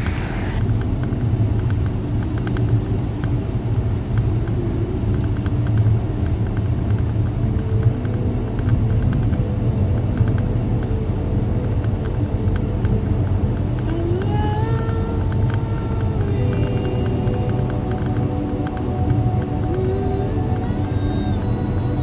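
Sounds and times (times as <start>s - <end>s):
road and engine noise in car: 0.0s - 22.0s.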